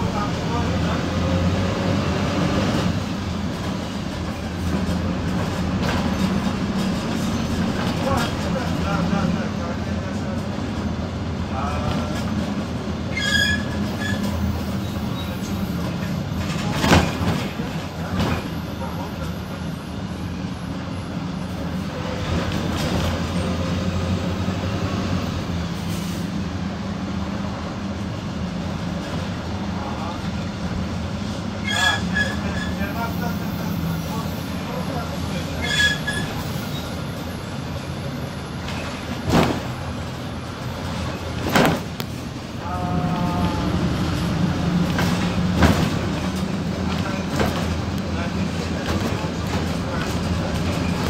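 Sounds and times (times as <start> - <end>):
bus engine and road drone: 0.0 - 51.0.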